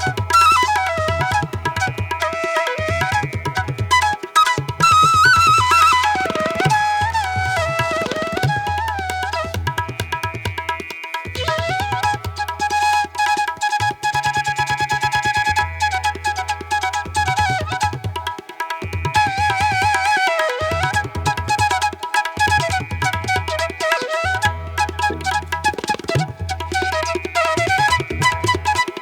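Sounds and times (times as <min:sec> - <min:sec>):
tabla drumming: 0:00.0 - 0:29.0.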